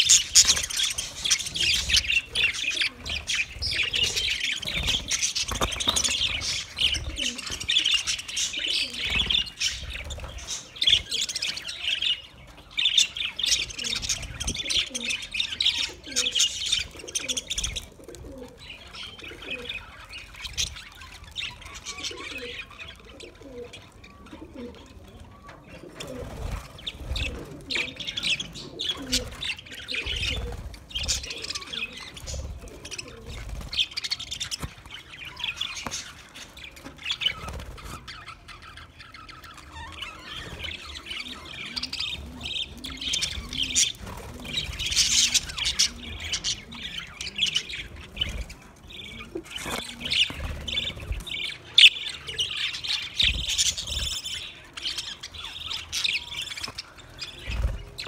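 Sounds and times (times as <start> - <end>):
budgerigars chattering and chirping: 0.0 - 18.0, 25.4 - 58.0.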